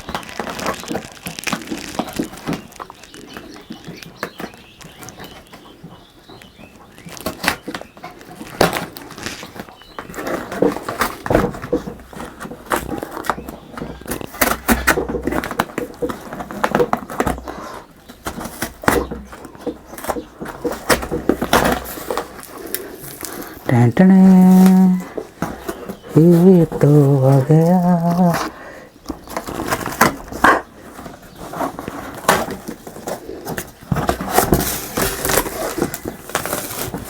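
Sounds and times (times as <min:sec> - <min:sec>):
cardboard rustling and tearing: 0:00.0 - 0:05.0, 0:07.0 - 0:37.0.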